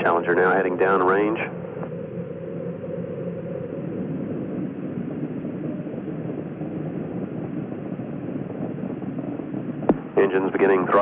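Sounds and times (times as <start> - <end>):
rocket exhaust roar: 0.0 - 11.0.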